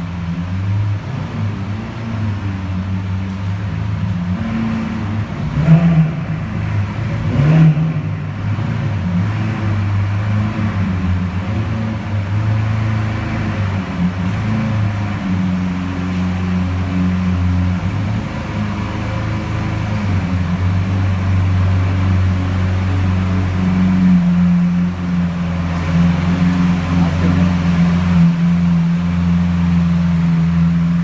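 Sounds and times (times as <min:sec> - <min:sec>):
engine revving: 0:00.0 - 0:31.0
sports car engine idling: 0:00.0 - 0:31.0.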